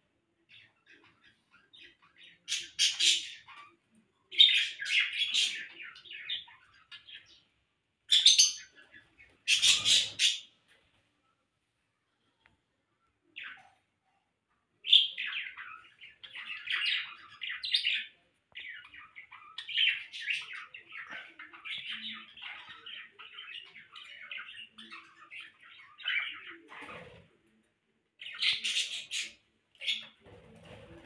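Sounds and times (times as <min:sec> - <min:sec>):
parrots chirping and chattering: 0:00.1 - 0:11.0, 0:13.1 - 0:31.0.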